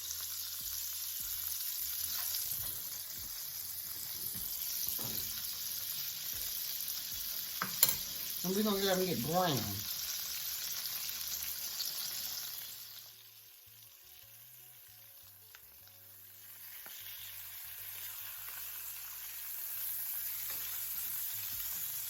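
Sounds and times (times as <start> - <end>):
chicken sizzling in butter: 0.0 - 22.0.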